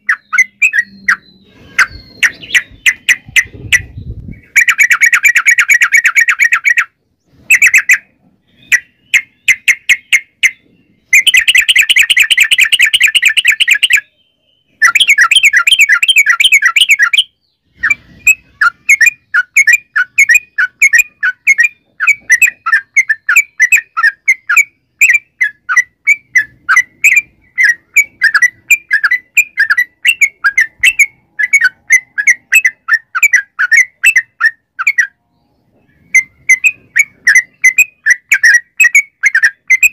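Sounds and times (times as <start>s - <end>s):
bird chattering song: 0.0s - 39.9s
loud bird chirps: 0.0s - 39.9s.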